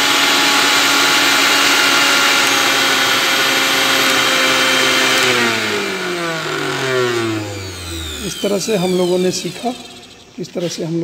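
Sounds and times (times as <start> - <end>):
mixer grinder motor whining: 0.0 - 10.7.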